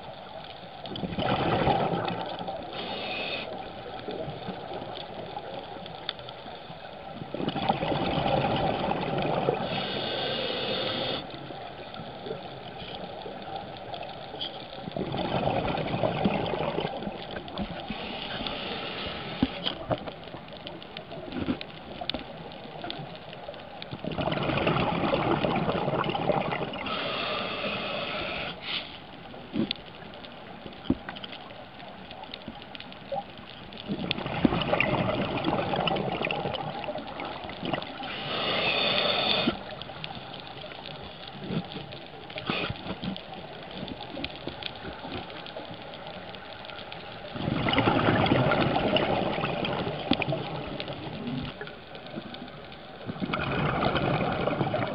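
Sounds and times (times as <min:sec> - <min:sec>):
faint clicks and crackles: 0:00.0 - 0:54.9
exhaled bubbles underwater: 0:00.8 - 0:06.0, 0:06.8 - 0:28.5, 0:33.0 - 0:54.9.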